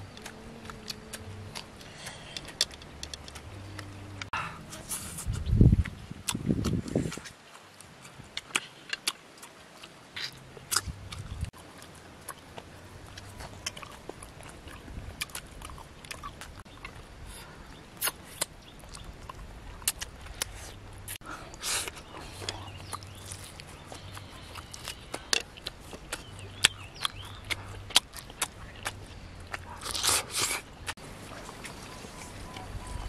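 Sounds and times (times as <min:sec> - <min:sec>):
people chewing and lip-smacking: 0:00.0 - 0:33.0.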